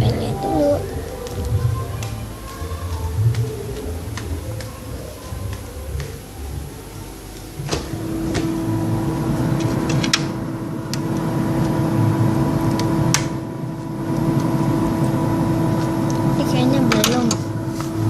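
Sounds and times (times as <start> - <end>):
refrigerator humming: 0.0 - 18.0.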